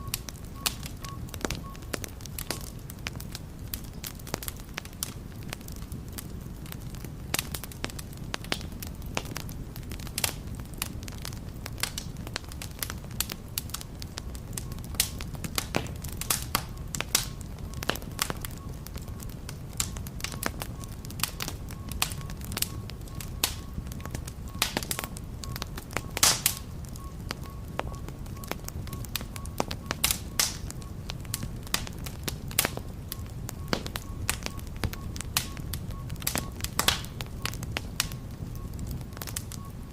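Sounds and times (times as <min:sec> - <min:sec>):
fire crackling and popping: 0:00.0 - 0:39.9
fire rushing: 0:00.0 - 0:39.9.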